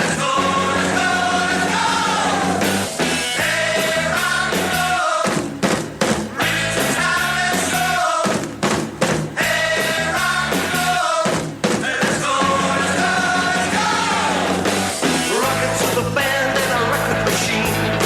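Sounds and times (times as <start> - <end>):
rock and roll song: 0.0 - 18.0.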